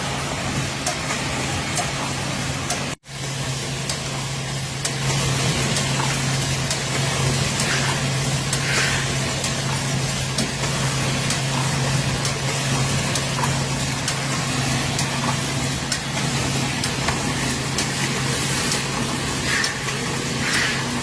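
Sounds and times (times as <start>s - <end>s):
machine hum and mechanical noise: 0.0s - 21.0s
sharp machine clicks: 0.8s - 21.0s.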